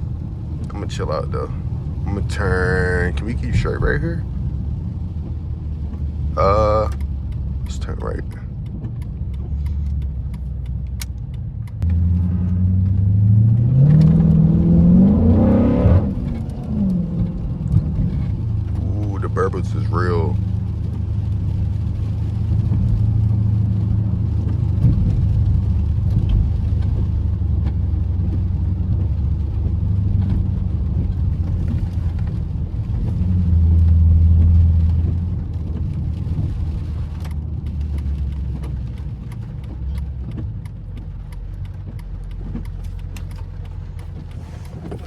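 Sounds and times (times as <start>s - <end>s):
car engine rumble inside cabin: 0.0s - 45.0s.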